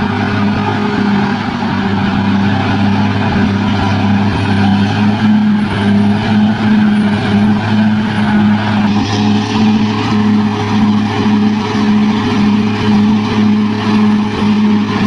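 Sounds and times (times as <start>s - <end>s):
bulldozer engine droning: 0.0s - 15.0s.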